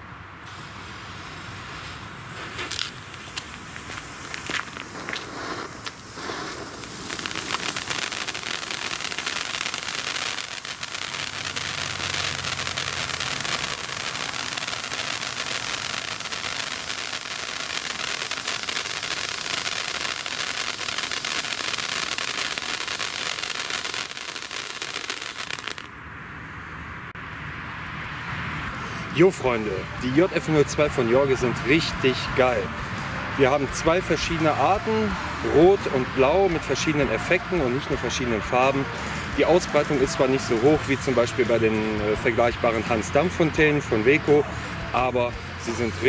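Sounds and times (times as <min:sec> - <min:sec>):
firework fountains hissing: 0:00.4 - 0:25.9, 0:29.6 - 0:46.0.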